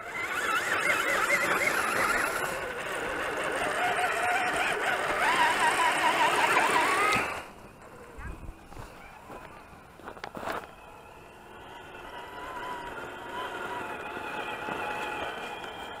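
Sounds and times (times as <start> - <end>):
electric motor whining: 0.0 - 8.3, 10.2 - 16.0.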